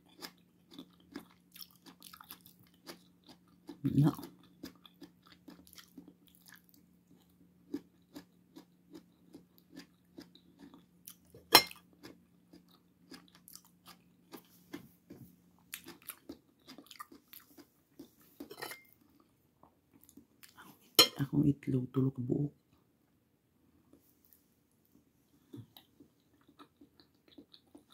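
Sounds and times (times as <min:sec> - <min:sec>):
person chewing food: 0:00.0 - 0:21.0, 0:23.7 - 0:27.9
faint low hum: 0:00.0 - 0:27.9.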